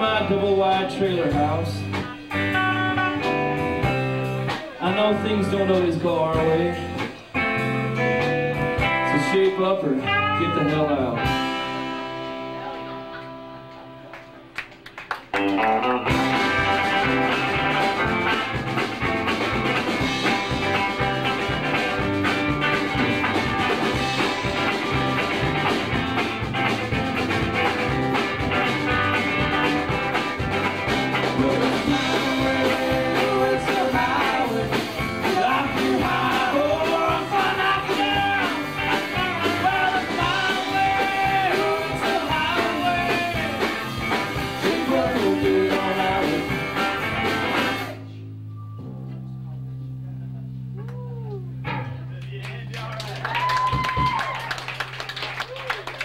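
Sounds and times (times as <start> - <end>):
pitch-bending guitar lead line: 0.0 - 14.6, 15.3 - 54.6
live rock band playing: 0.0 - 56.0.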